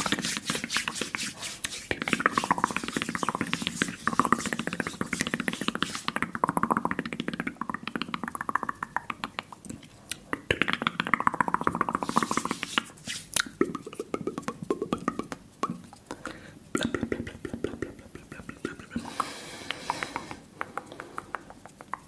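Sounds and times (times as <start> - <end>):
wet mouth clicks and pops: 0.0 - 22.0.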